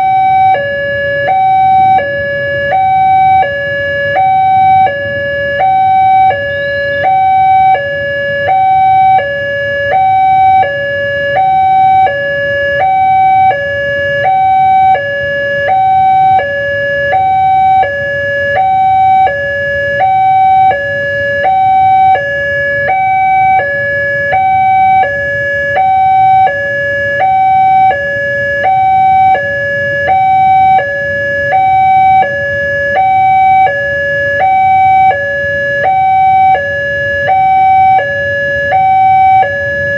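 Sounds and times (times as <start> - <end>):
two-tone siren: 0.0 - 39.9.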